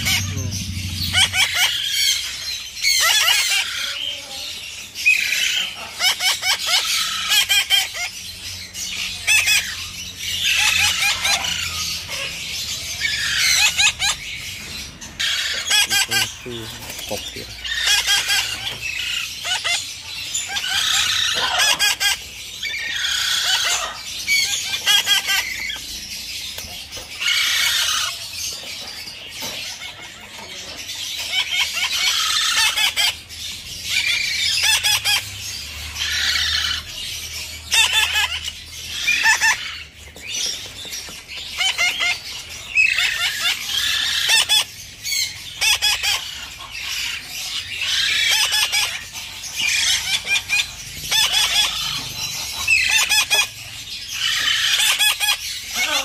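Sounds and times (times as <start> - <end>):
parakeet chicks begging calls: 0.0 - 56.0.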